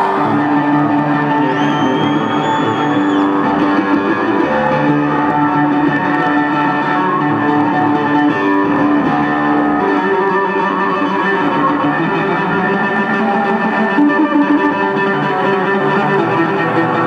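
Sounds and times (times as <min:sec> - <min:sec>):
electric bass solo: 0:00.0 - 0:17.0.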